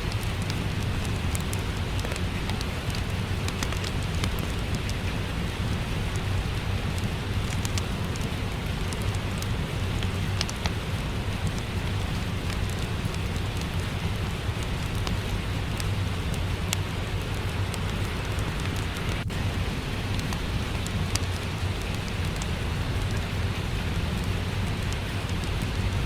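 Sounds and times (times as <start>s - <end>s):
rain pattering: 0.0s - 26.0s
wood fire crackling: 0.0s - 26.0s.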